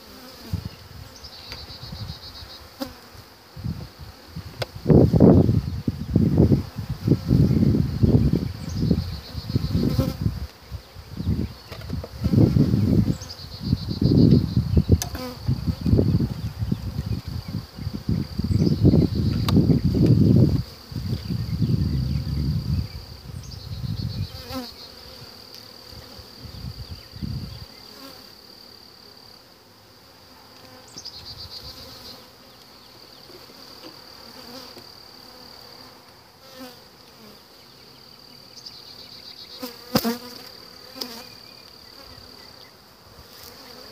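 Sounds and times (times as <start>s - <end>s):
honeybees buzzing: 0.0s - 43.9s.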